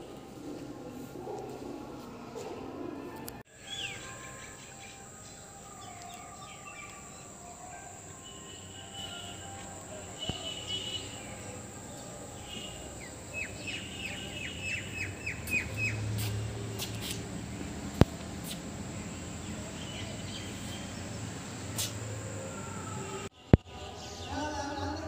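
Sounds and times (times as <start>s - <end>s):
birds chirping: 3.5s - 25.0s.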